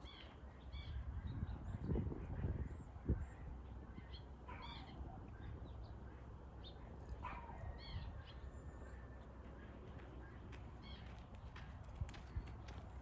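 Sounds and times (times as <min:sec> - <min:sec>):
birds chirping: 0:00.0 - 0:13.0
low steady background rumble: 0:00.0 - 0:13.0.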